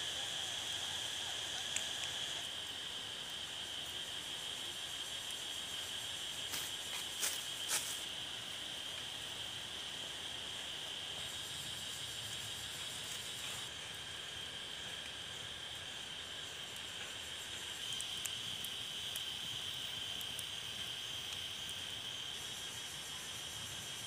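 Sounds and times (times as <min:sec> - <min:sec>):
insects droning: 0:00.0 - 0:24.0
wood fire crackling: 0:00.1 - 0:24.0.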